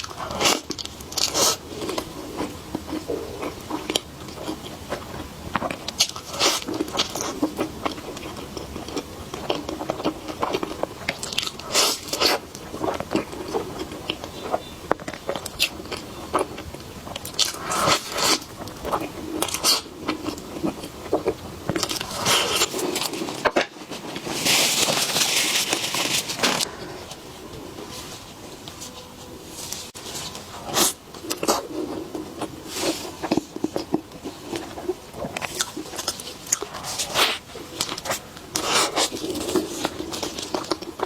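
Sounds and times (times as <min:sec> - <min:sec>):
chewing: 0:00.0 - 0:29.1, 0:29.7 - 0:41.0.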